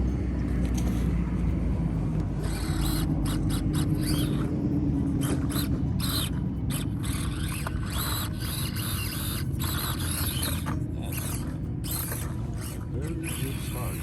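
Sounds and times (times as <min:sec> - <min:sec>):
toy car electric motor whining: 0:00.6 - 0:01.1, 0:02.1 - 0:14.0.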